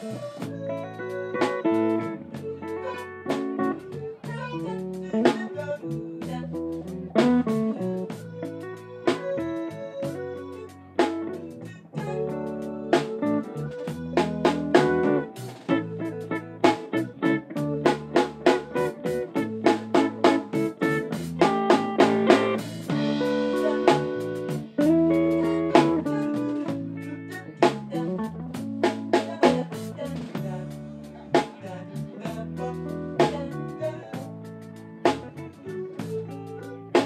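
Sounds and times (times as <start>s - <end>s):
steady drum beat: 0.0s - 10.3s, 11.0s - 37.0s
bass guitar: 0.0s - 37.0s
electric guitar lead: 0.0s - 37.0s.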